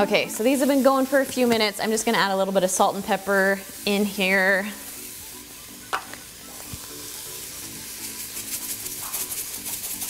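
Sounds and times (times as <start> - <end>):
mushrooms and onion sizzling: 0.0 - 10.0.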